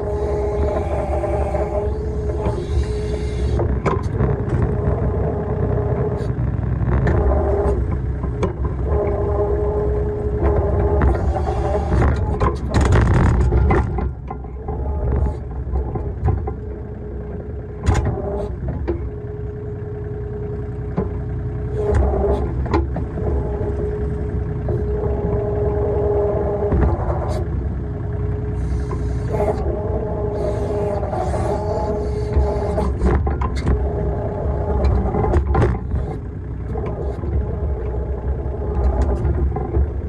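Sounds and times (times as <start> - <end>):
backhoe digging clanks: 0.0 - 40.0
tractor diesel engine running: 0.0 - 40.0.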